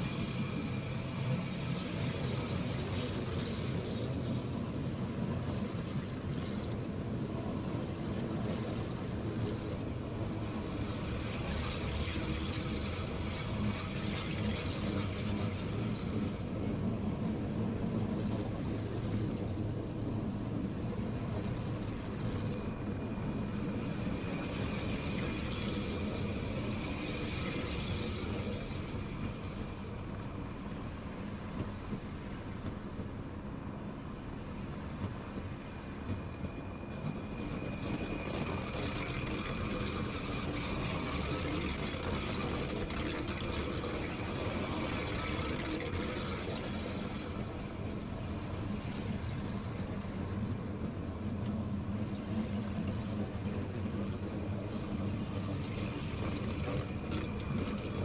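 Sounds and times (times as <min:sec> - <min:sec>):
faint high whine: 0:00.0 - 0:58.0
train rolling past: 0:00.0 - 0:58.0.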